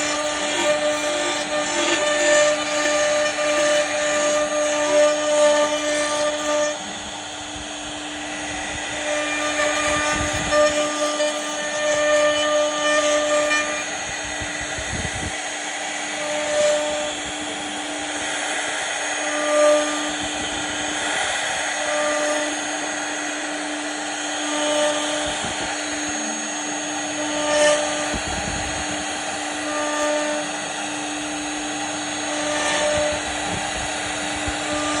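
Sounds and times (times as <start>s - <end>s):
router spindle whining: 0.0s - 35.0s.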